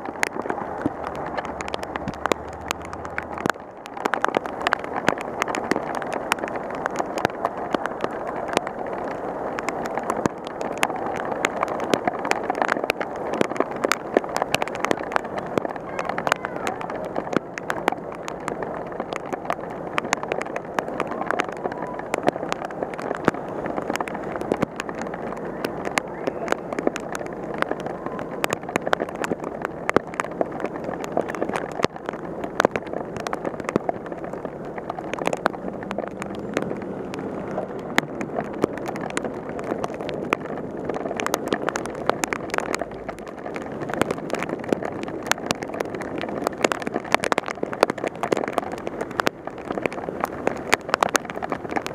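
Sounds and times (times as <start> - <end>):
raindrops ticking on camera: 0.0 - 51.9
traffic on wet road: 0.0 - 51.9.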